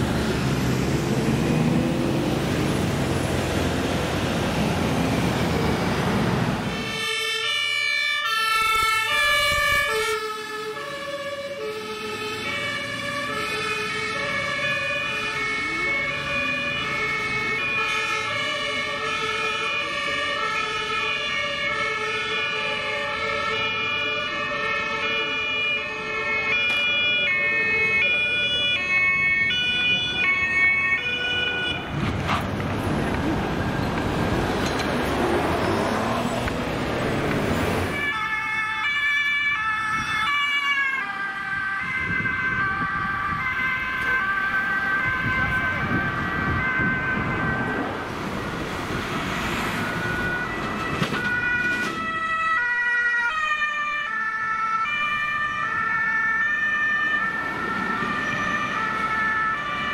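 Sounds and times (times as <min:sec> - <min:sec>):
two-tone emergency sirens: 0:00.0 - 0:32.4, 0:33.0 - 0:59.9.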